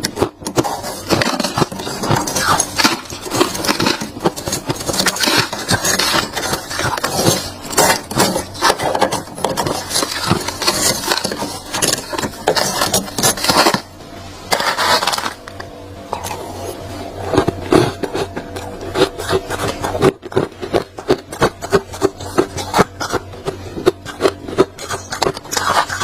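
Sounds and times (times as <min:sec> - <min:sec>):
freezer frost being scraped: 0:00.0 - 0:26.0.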